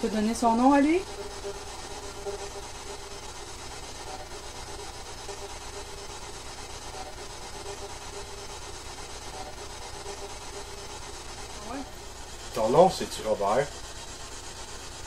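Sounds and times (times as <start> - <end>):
faint wavering tones: 0.0 - 12.3
low hum: 0.0 - 12.3
steady hiss: 0.0 - 15.0.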